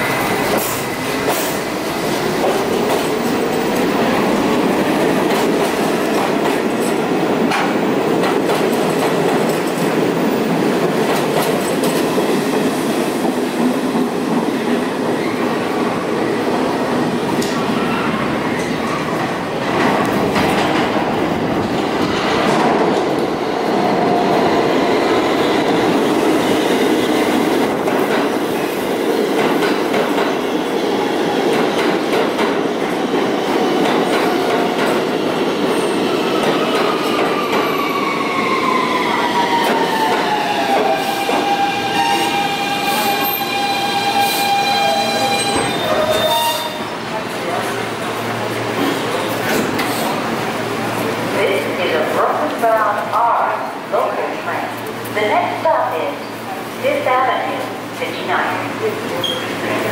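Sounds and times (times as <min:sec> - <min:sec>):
subway train wheels on rails: 0:00.0 - 0:59.9.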